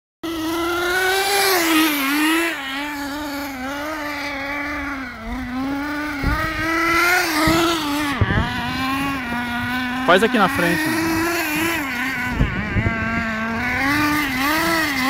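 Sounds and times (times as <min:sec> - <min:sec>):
nitro rc car engine buzzing: 0:00.2 - 0:15.0.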